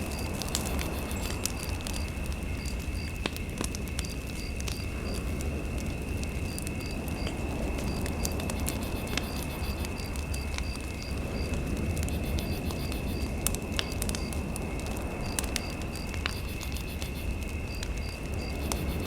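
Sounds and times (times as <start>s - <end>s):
fireplace fire crackling: 0.0s - 19.0s.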